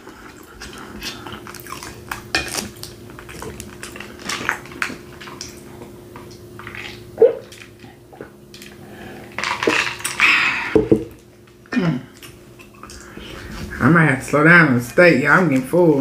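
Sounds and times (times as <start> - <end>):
eating sounds: 0.0 - 14.4
faint steady hum: 0.0 - 16.0.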